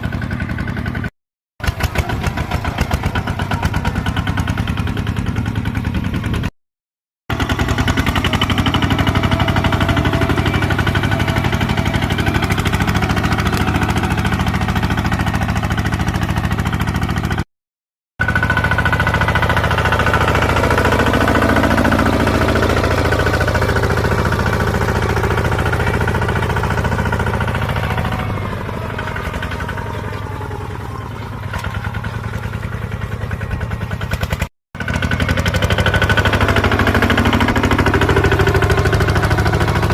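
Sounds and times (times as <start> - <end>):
tractor engine running under load: 0.0 - 6.5, 7.3 - 17.5, 18.2 - 39.9.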